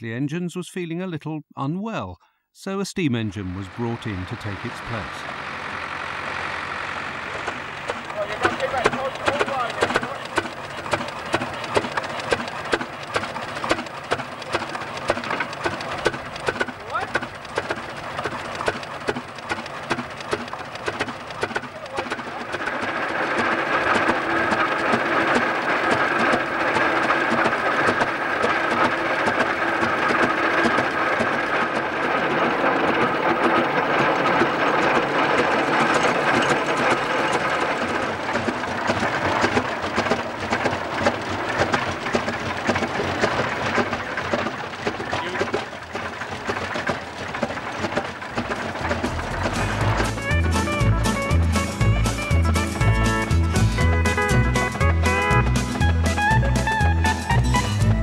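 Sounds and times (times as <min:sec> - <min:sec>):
steady whine: 0:02.6 - 0:58.0
engine mechanical clatter: 0:03.2 - 0:58.0.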